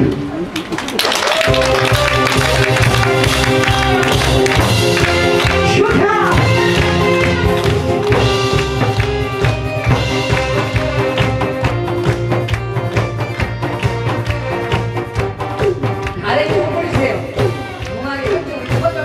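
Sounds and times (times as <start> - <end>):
instrumental music over sound system: 1.4 - 19.0
barrel drums beaten: 1.6 - 17.8.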